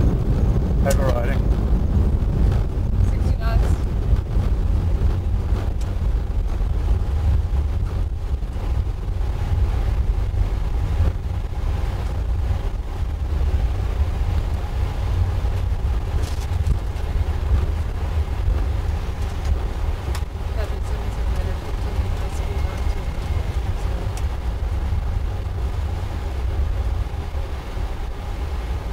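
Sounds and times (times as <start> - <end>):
aircraft cockpit rumble: 0.0 - 28.9.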